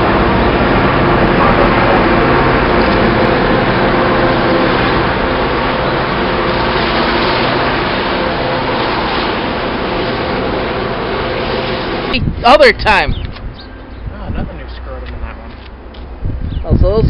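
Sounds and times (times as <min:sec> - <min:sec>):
locomotive engine drone: 0:00.0 - 0:16.6.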